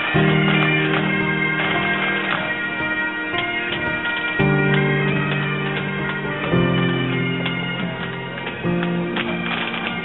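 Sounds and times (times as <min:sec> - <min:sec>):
bagpipe band playing: 0:00.0 - 0:10.0.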